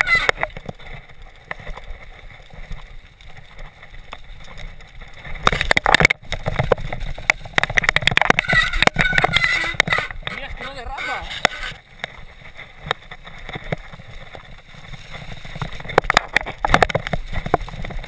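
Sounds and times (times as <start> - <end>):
bike clattering over rough ground: 0.0 - 18.0
mountain bike tyre rumble: 0.0 - 18.0.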